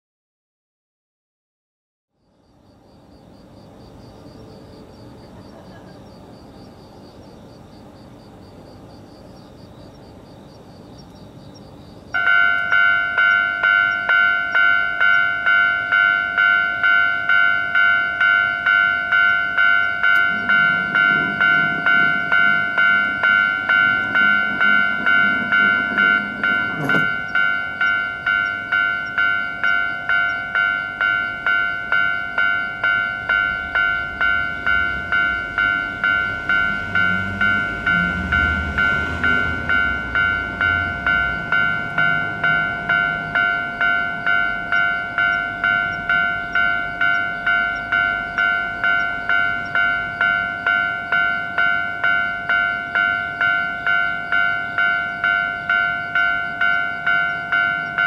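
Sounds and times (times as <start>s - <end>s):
railroad crossing bell clanging: 4.2s - 58.0s.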